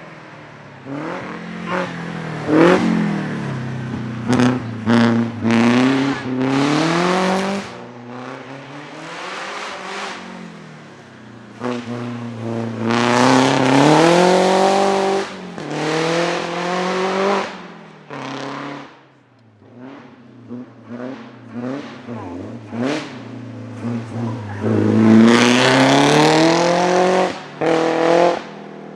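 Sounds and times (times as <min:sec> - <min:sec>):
racing car engine accelerating: 0:00.8 - 0:19.0, 0:19.6 - 0:28.5.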